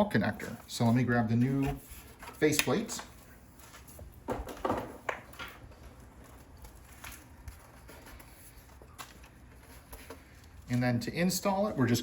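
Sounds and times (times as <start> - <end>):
handling rustles and knocks: 0.3 - 10.7.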